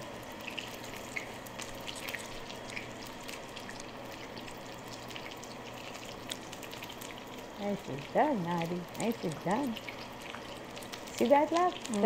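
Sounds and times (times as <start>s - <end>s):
hot oil sizzling and popping: 0.0s - 12.0s.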